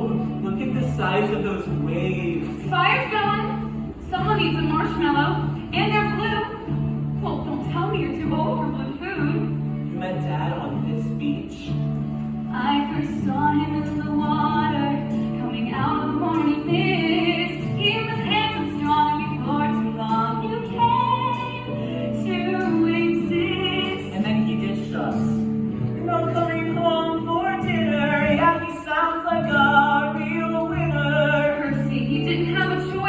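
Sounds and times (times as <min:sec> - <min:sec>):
person singing: 0:00.0 - 0:33.0.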